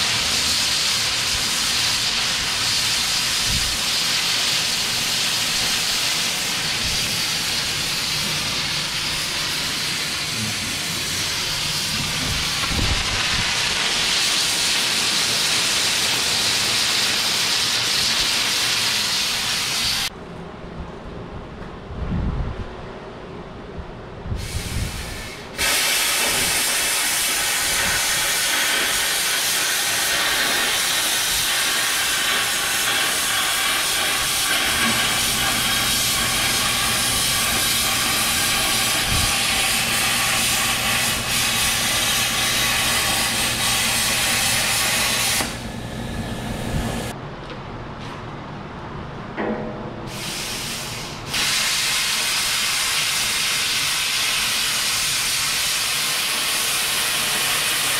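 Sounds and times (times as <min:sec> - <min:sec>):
cutting torch hissing: 0:00.0 - 0:20.1, 0:24.4 - 0:47.1, 0:50.1 - 0:57.9.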